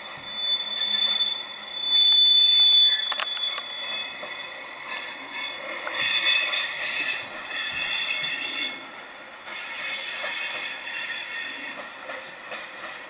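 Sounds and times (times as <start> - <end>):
train wheels squealing on rails: 0.0 - 13.0.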